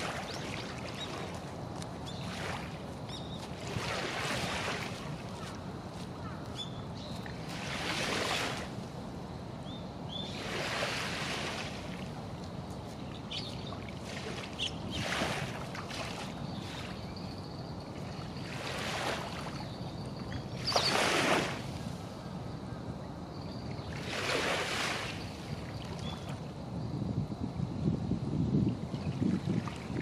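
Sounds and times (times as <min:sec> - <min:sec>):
small waves lapping and splashing: 0:00.0 - 0:09.1, 0:10.2 - 0:22.2, 0:23.8 - 0:26.6, 0:29.0 - 0:30.0.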